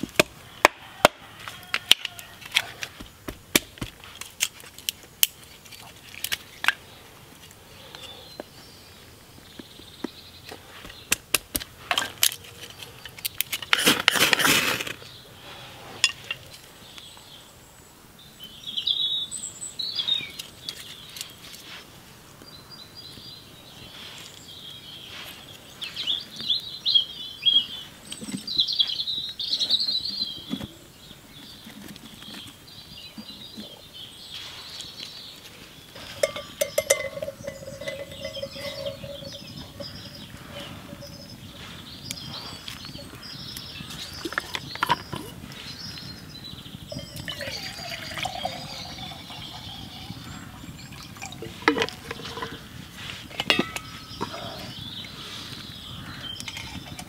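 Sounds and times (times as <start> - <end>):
birds chirping: 0.0 - 13.8, 15.0 - 57.0.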